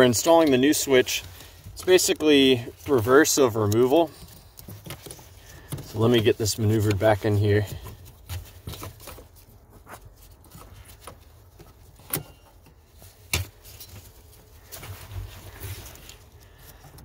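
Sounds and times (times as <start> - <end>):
gloved hand rustling: 0.0 - 17.0.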